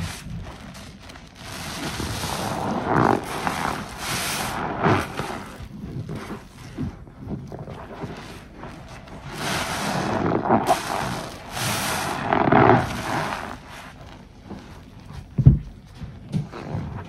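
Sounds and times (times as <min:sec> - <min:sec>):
sponges squelching in soap foam: 0:00.0 - 0:17.0.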